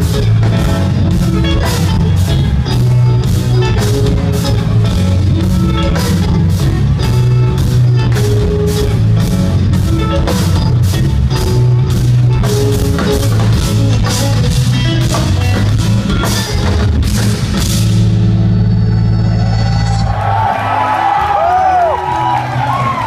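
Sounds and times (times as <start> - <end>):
heavy electric guitar riffs: 0.0 - 23.0.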